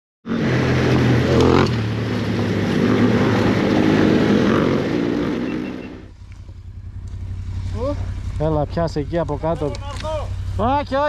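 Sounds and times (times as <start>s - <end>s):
motorcycle engine running: 0.3s - 11.0s.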